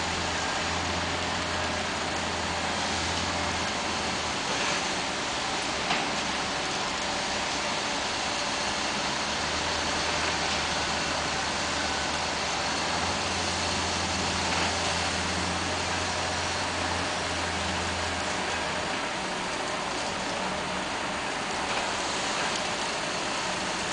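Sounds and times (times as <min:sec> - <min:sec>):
heavy machine engine drone: 0:00.0 - 0:23.9.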